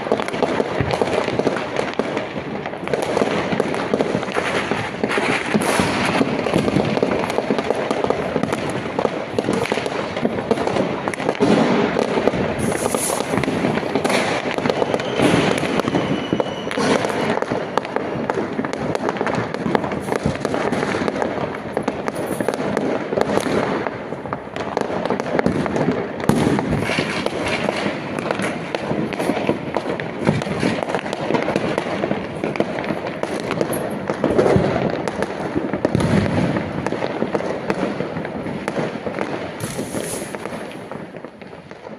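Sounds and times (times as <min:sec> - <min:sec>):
fireworks and firecrackers crackling: 0:00.0 - 0:41.9.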